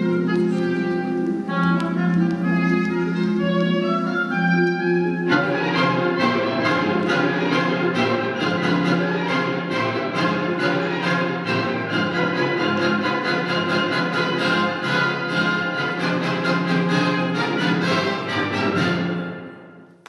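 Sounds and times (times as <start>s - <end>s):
orchestral music with violins: 0.0s - 19.9s.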